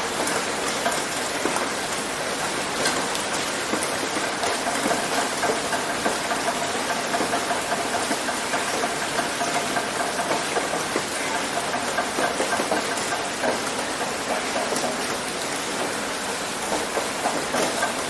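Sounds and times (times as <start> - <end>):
heavy rain on a roof: 0.0 - 18.0.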